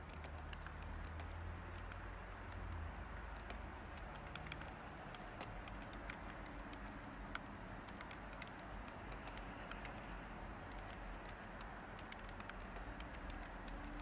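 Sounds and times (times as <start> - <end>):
computer keyboard typing: 0.0 - 14.0.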